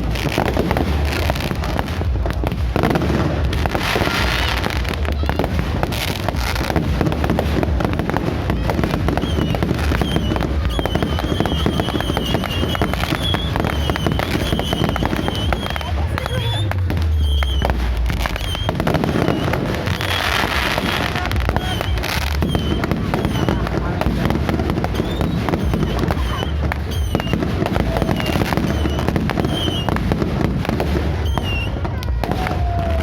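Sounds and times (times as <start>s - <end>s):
fireworks crackling: 0.0s - 33.0s
fireworks low boom: 0.0s - 33.0s.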